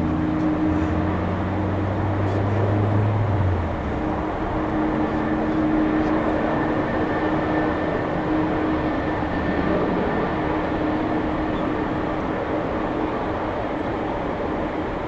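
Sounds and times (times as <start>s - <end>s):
faint high engine whine: 0.0s - 15.0s
jet engines rumbling: 0.0s - 15.0s.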